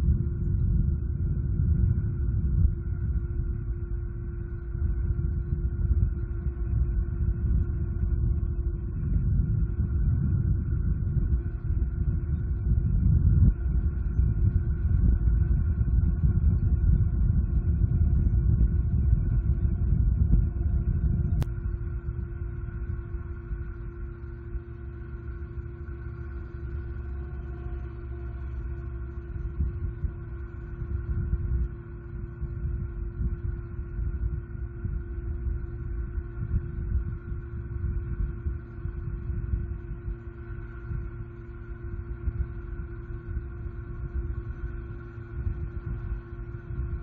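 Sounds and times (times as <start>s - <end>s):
wind buffeting microphone: 0.0s - 23.7s, 28.0s - 47.0s
faint steady hum: 0.0s - 47.0s.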